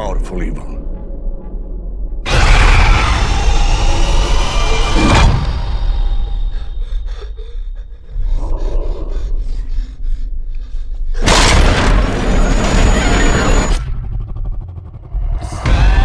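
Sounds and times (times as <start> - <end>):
deep low rumble: 0.8 - 16.0.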